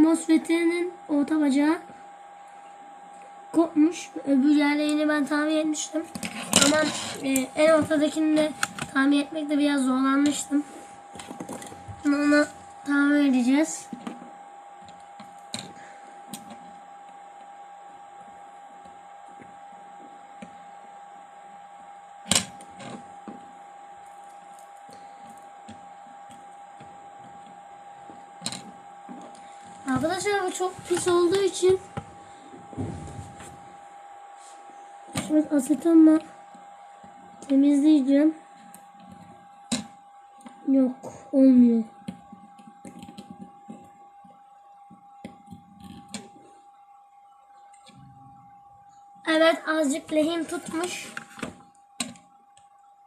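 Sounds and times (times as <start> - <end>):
faint high whine: 0.0 - 53.0.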